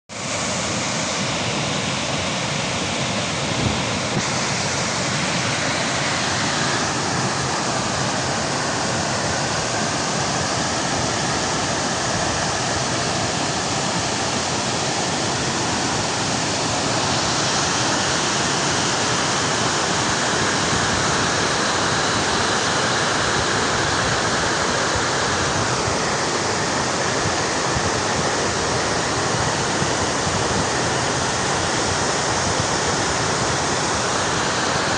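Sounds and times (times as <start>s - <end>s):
rushing water roar: 0.1s - 34.9s.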